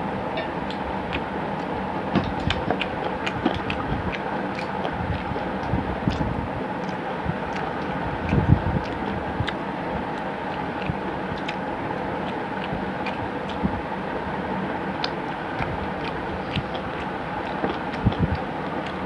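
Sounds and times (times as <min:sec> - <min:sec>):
fingers working food on steel plate: 0:00.4 - 0:14.0, 0:14.9 - 0:19.0
chewing and lip-smacking: 0:00.6 - 0:19.0.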